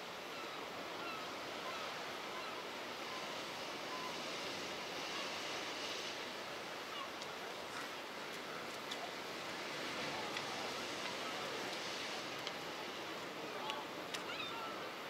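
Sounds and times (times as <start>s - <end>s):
surf washing: 0.0s - 15.0s.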